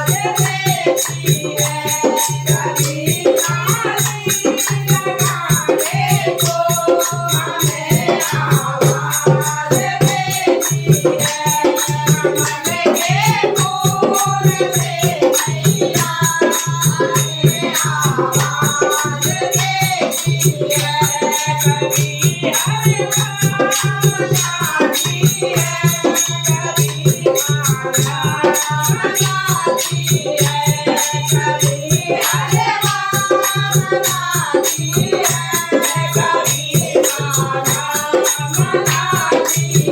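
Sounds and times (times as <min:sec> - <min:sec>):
fast rattling percussion: 0:00.0 - 0:39.9.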